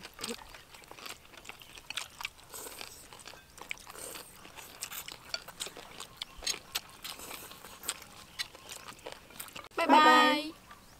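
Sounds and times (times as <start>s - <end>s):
people chewing: 0.0s - 10.8s.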